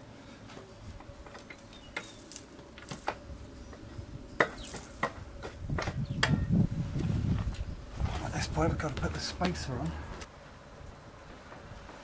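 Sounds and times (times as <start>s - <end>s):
low rumbling handling noise: 0.5s - 10.3s.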